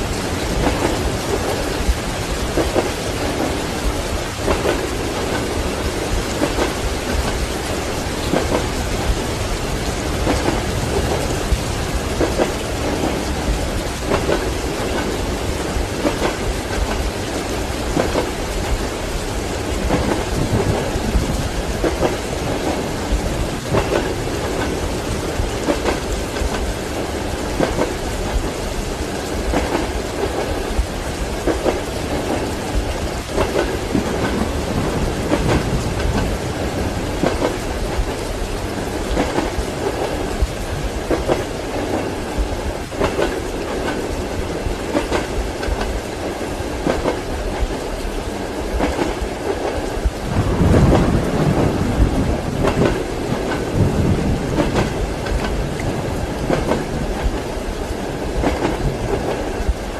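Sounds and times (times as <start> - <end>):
train wheels clacking: 0.0 - 50.2, 50.8 - 59.9
rain hissing: 0.0 - 59.9.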